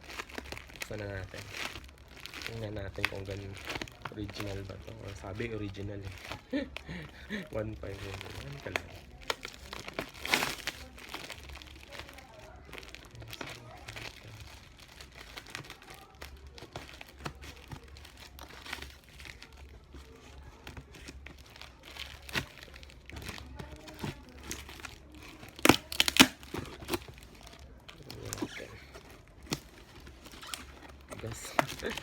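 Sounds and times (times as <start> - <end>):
packaging ripping: 0.0 - 6.8, 7.5 - 32.0
packaging crinkling and rustling: 0.0 - 32.0.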